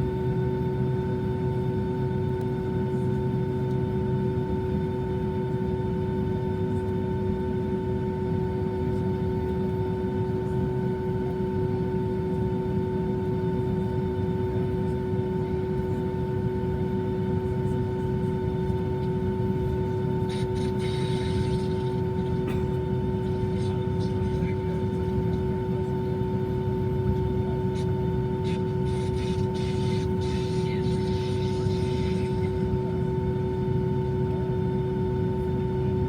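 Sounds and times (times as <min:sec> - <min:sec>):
airplane engines running: 0:00.0 - 0:36.0.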